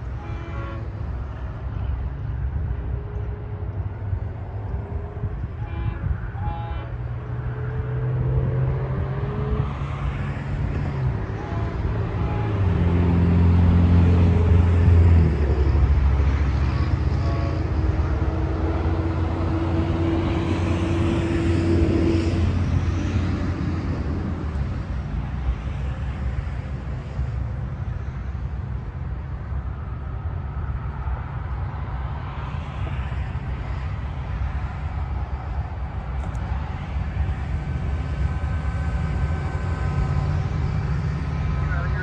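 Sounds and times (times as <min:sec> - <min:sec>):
diesel locomotive engine passing: 0:00.0 - 0:42.0.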